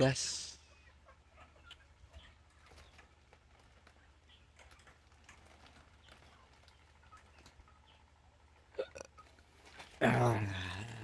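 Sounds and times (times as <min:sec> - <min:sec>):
chickens clucking: 0:00.0 - 0:10.3.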